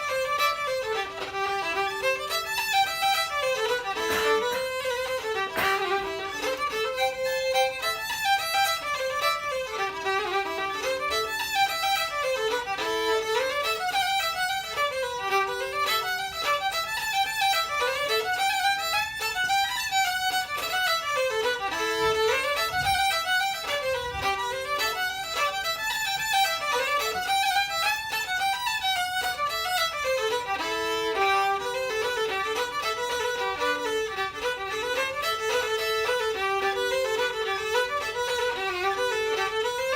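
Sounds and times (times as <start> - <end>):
fiddle playing: 0.0 - 39.9.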